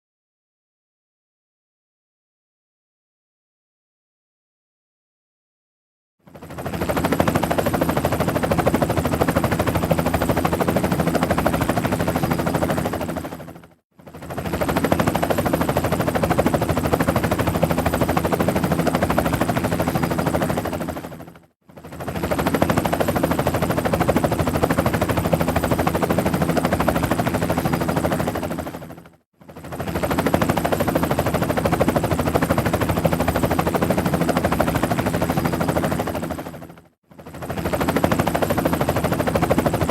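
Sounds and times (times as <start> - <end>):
helicopter rotor blades chopping: 6.2 - 39.9.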